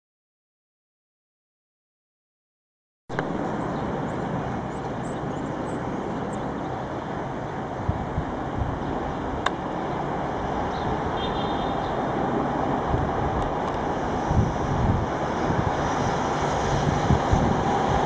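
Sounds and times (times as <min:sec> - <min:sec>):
electric train approaching: 0:03.2 - 0:18.0.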